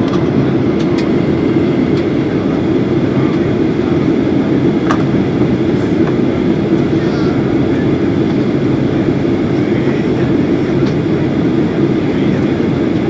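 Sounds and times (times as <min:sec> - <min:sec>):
airplane cabin roar: 0:00.0 - 0:13.0.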